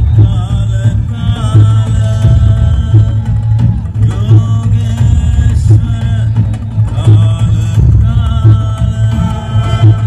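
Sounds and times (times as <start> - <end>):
devotional music over speakers: 0.0 - 10.0.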